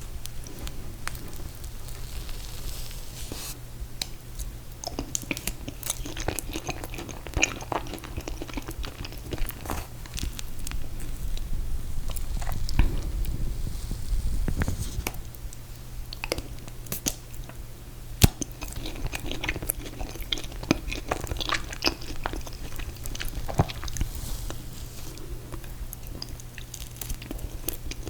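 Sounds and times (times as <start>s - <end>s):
person chewing food: 0.0s - 13.4s, 16.1s - 17.6s, 18.2s - 28.0s.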